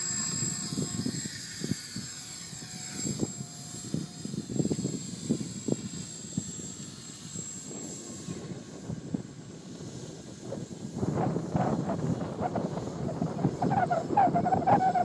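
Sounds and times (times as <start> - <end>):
model plane motors whining: 0.0 - 15.0
wind buffeting microphone: 0.0 - 15.0.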